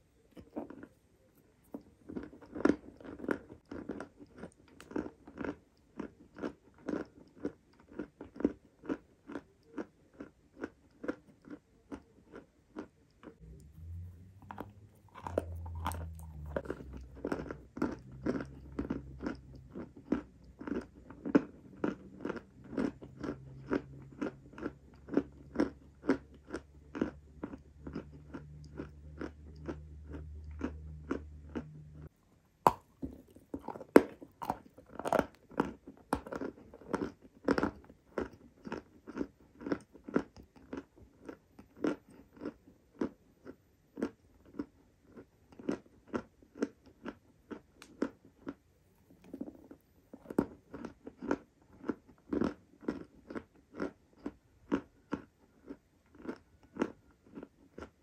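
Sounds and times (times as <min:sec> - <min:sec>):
chewing crunchy clay: 0:00.0 - 0:58.0.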